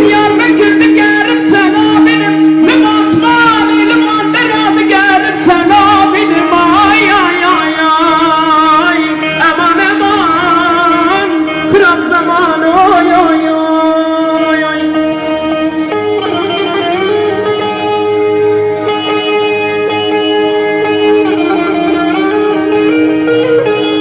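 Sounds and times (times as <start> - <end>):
held drone note: 0.0 - 24.0.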